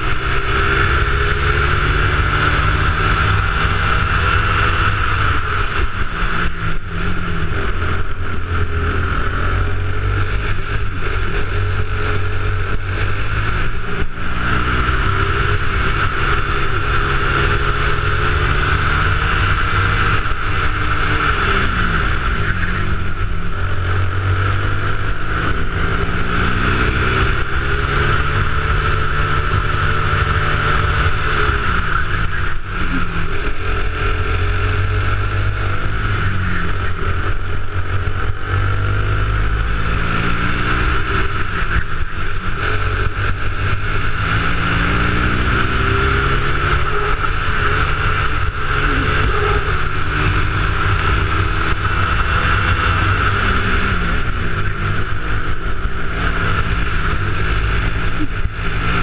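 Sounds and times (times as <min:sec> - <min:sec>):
high whine: 0:00.0 - 0:59.0
kart engine racing: 0:00.0 - 0:59.0.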